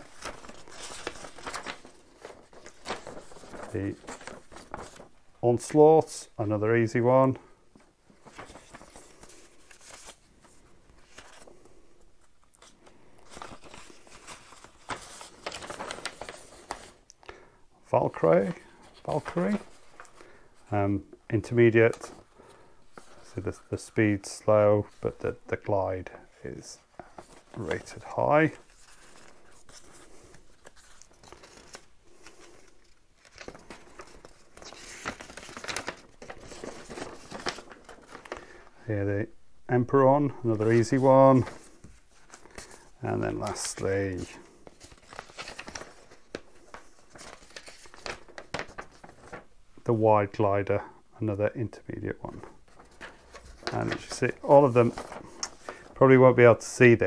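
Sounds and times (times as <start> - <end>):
stiff paper sheets rustling: 0.0 - 20.7, 21.4 - 39.0, 40.0 - 50.0, 52.1 - 57.0.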